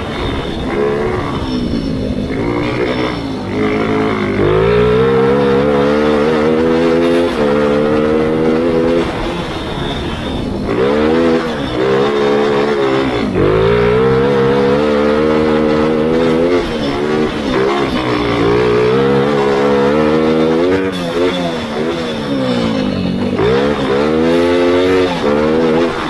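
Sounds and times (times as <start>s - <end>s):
kart engine racing: 0.0s - 26.0s.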